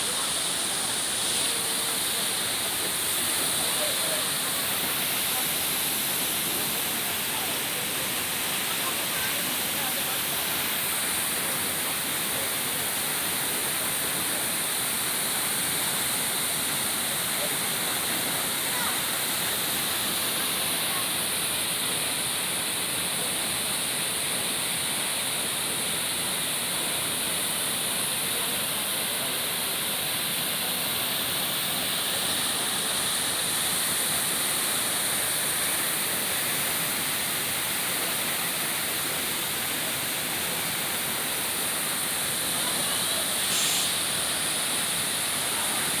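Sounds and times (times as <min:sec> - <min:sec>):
waterfall rushing and crashing: 0:00.0 - 0:46.0.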